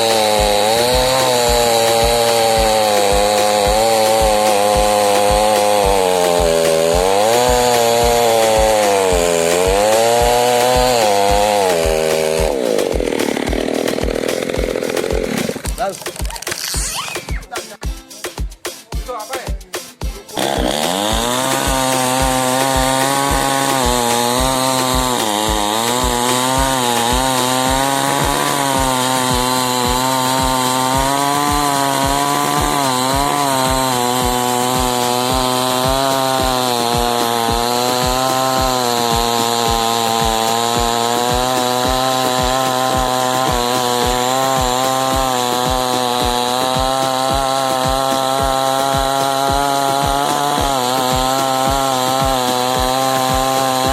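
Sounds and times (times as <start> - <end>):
chainsaw cutting: 0.0 - 53.9.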